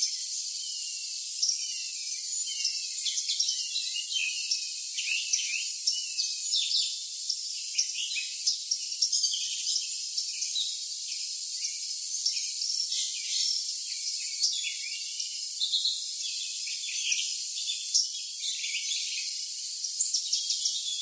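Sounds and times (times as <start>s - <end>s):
high cricket trill: 0.0s - 21.0s.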